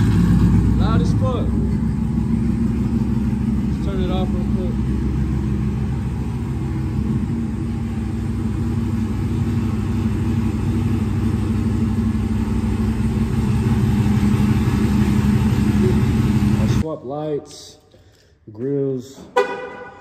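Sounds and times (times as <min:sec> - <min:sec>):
pickup truck engine idling: 0:00.0 - 0:16.8.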